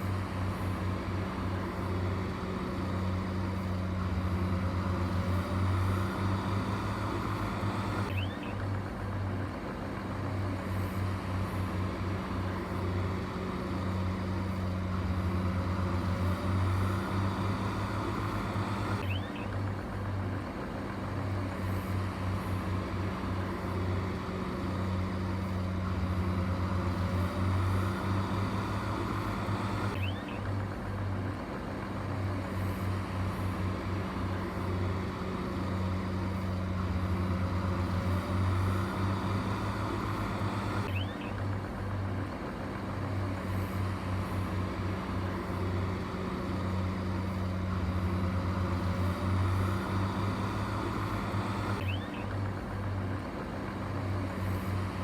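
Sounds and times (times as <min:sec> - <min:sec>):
heavy diesel engine humming: 0:00.0 - 0:55.0.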